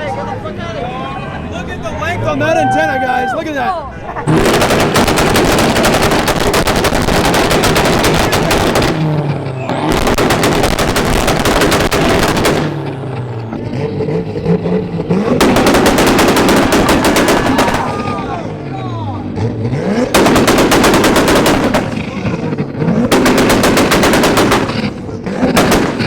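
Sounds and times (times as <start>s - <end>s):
car engine running: 3.5s - 26.0s
exhaust banging and crackling: 4.1s - 26.0s.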